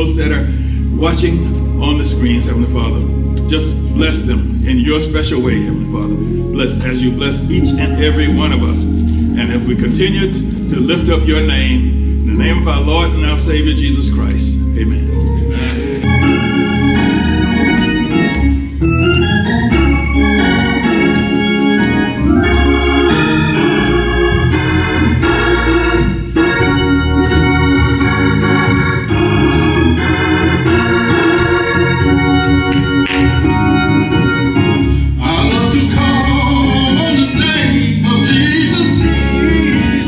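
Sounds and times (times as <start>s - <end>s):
organ chords: 0.0s - 40.0s.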